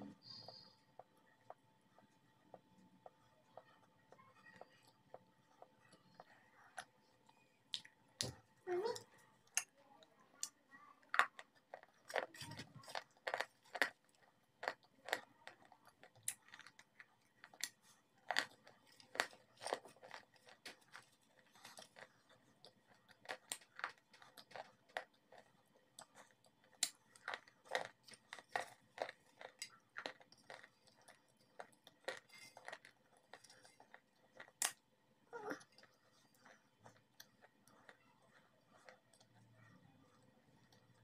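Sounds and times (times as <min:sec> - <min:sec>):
crunchy chewing: 0:00.2 - 0:41.0.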